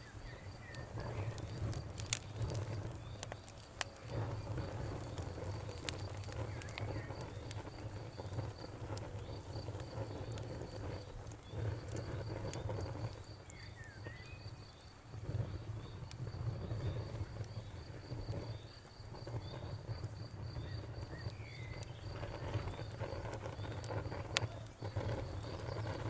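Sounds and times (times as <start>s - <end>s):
campfire crackling and popping: 0.0s - 26.0s
crickets chirping: 0.0s - 26.0s.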